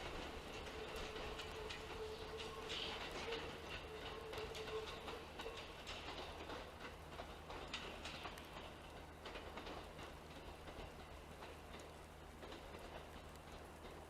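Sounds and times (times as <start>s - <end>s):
train wheels clicking over rails: 0.0s - 14.0s
train whine: 0.0s - 14.0s.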